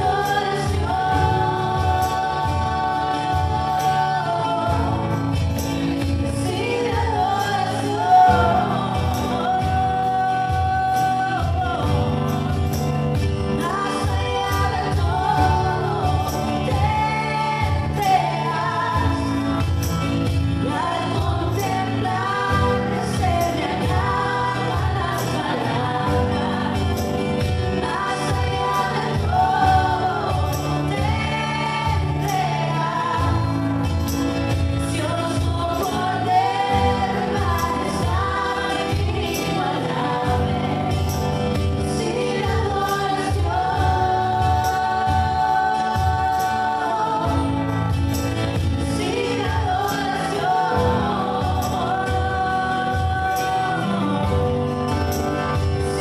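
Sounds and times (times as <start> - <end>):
acoustic guitars: 0.0 - 56.0
cajon drum: 0.0 - 56.0
keyboard: 0.0 - 56.0
singers: 0.0 - 56.0.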